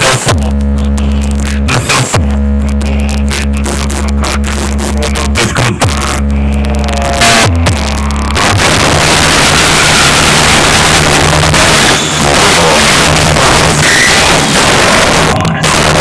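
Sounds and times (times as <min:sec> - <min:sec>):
loud distorted electronic music: 0:00.0 - 0:16.0.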